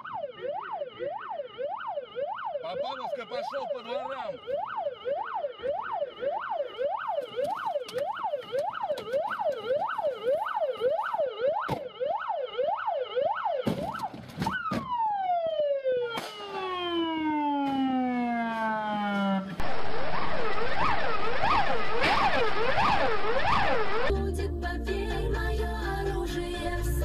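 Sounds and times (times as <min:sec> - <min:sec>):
police siren yelping: 0:00.0 - 0:24.1.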